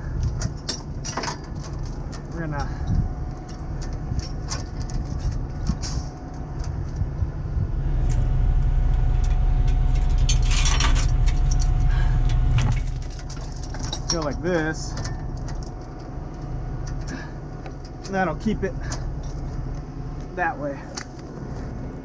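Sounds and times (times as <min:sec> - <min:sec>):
heavy chains clinking and rattling: 0:00.0 - 0:07.1, 0:08.0 - 0:21.0
low engine rumble: 0:00.0 - 0:22.0.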